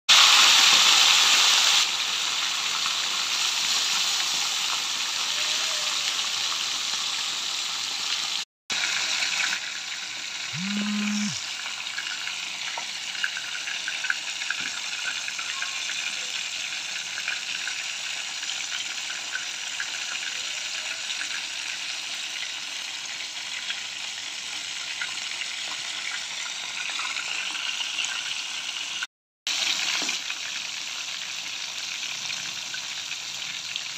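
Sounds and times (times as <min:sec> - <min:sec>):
fish sizzling in hot oil: 0:00.1 - 0:10.5, 0:11.4 - 0:33.9.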